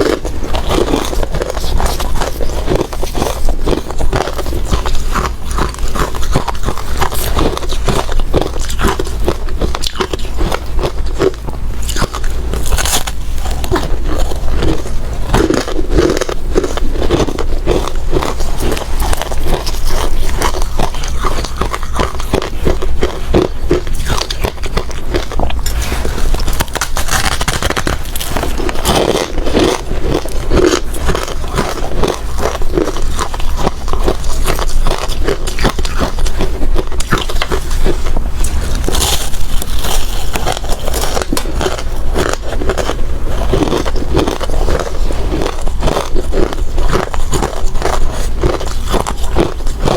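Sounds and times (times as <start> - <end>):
person chewing ice: 0.0 - 49.9.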